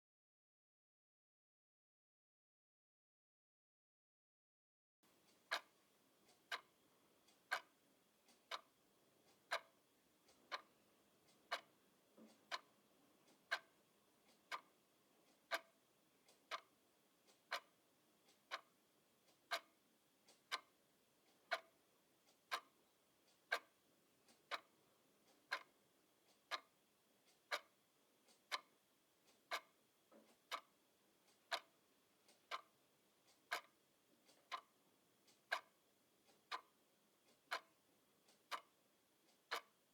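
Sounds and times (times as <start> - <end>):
grandfather clock ticking: 5.3 - 39.8.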